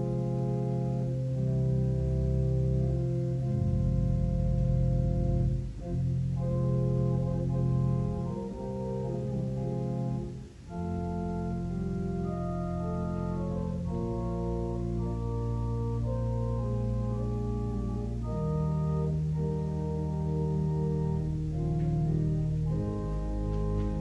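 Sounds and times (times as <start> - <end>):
church organ chords: 0.0 - 24.0.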